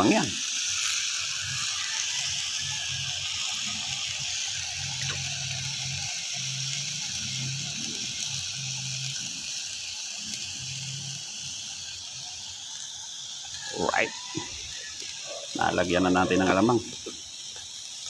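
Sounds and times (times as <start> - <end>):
vegetables sizzling in pot: 0.0 - 18.0.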